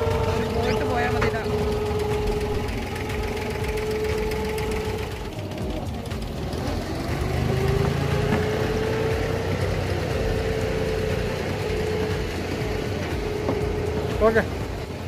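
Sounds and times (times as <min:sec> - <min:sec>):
boat diesel engine idling: 0:00.0 - 0:15.0.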